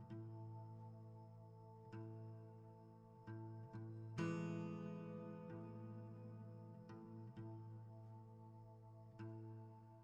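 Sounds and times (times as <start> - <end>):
slow plucked background music: 0.0 - 10.0.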